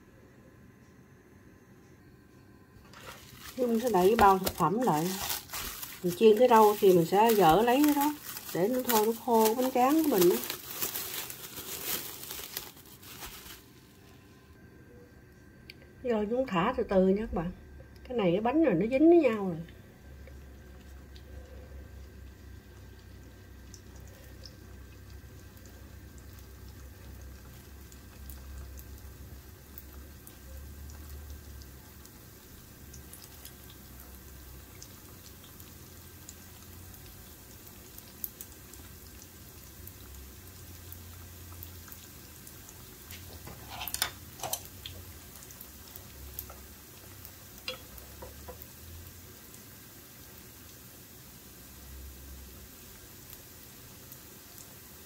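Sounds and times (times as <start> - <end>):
spring rolls sizzling in oil: 2.8 - 14.0, 18.1 - 55.0.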